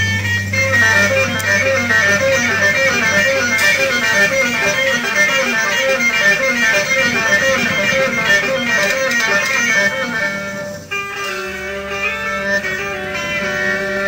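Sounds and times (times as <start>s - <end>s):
guitar picking quick notes: 0.0s - 14.0s.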